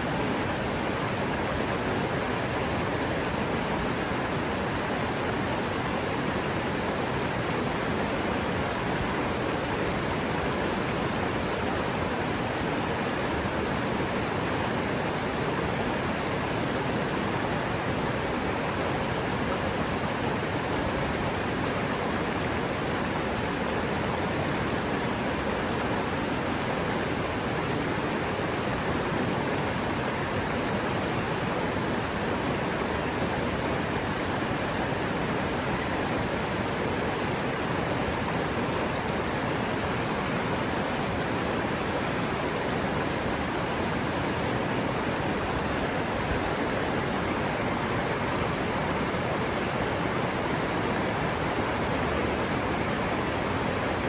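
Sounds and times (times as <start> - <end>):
river water over rocks: 0.0 - 54.0.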